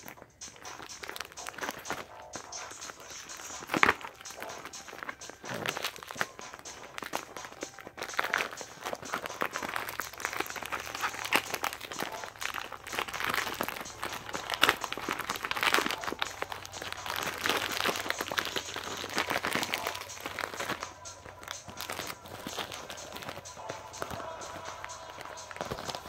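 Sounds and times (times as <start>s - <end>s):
crinkling handling noise: 0.0s - 26.0s.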